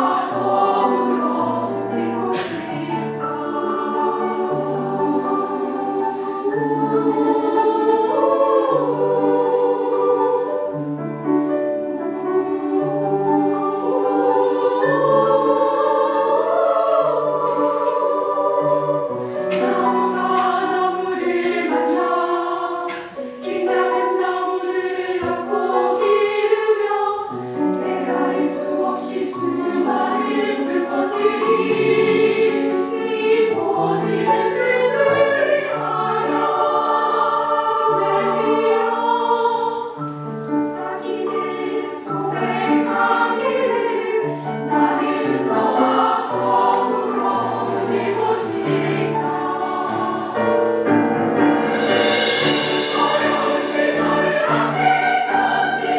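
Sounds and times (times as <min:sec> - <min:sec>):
choir singing in harmony: 0:00.0 - 0:55.9.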